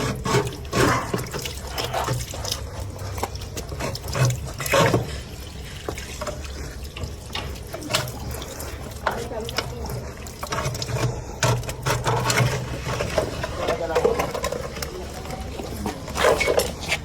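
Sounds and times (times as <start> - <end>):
water splashing in a drain: 0.0 - 17.0.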